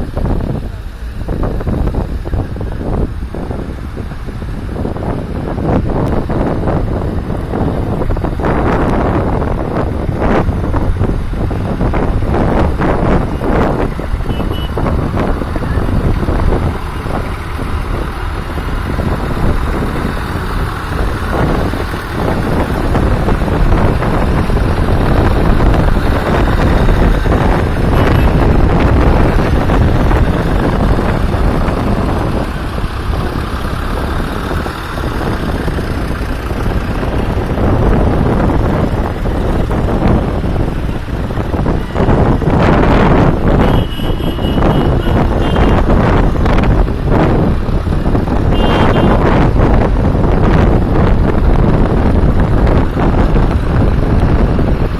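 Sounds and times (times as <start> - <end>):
tractor engines running: 0.0 - 54.9.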